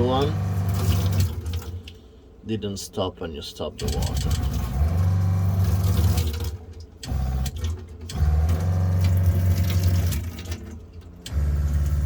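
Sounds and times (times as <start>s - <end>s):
water pump humming: 0.0s - 2.0s, 3.9s - 12.0s.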